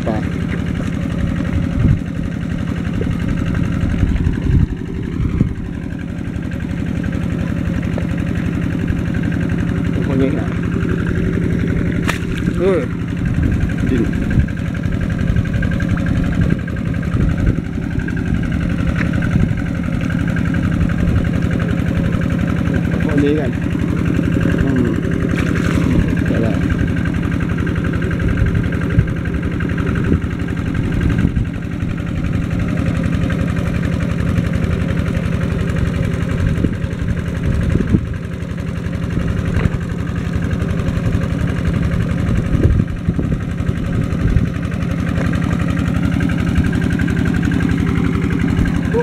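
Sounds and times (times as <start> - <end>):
pump engine humming: 0.0 - 49.0.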